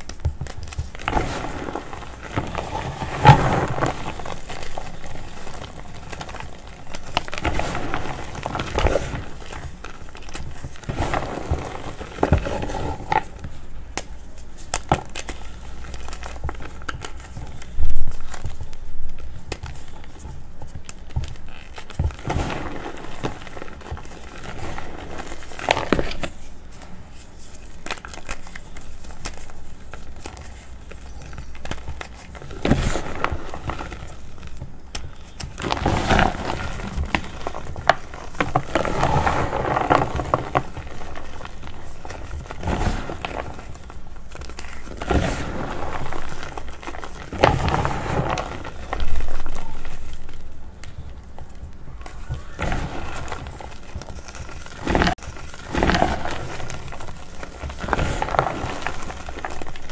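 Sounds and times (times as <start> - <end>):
hands crushing chalk lumps: 0.0 - 59.9.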